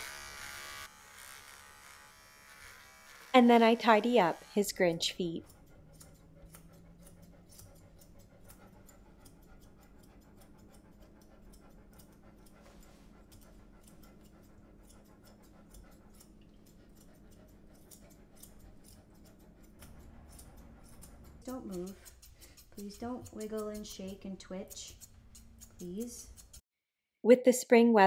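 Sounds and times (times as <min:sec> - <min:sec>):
scissors snipping fur: 0:03.0 - 0:26.6.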